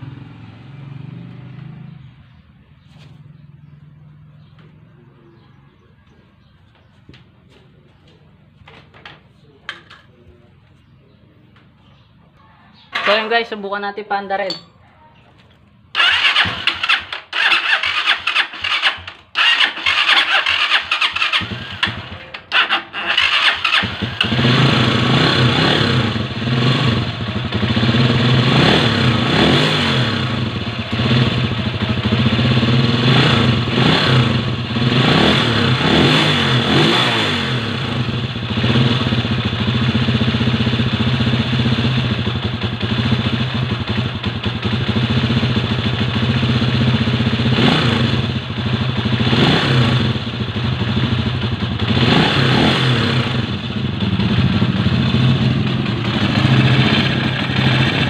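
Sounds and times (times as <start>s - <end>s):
motorcycle engine starting and running: 0.0s - 10.2s, 12.8s - 13.5s, 15.4s - 58.0s.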